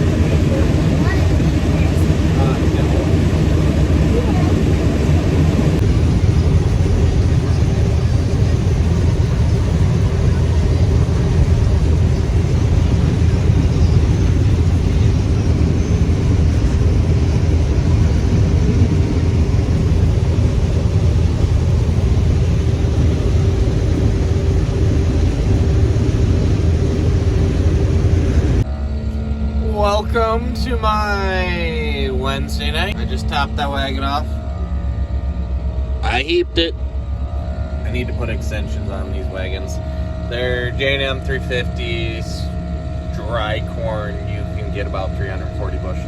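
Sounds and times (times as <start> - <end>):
combine harvester engine rumble: 0.0 - 46.0.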